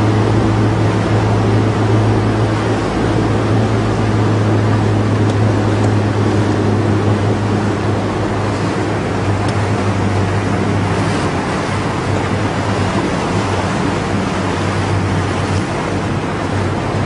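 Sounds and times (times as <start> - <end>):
boat engine hum: 0.0 - 17.0
water rushing: 0.0 - 17.0
wind on microphone: 0.0 - 17.0.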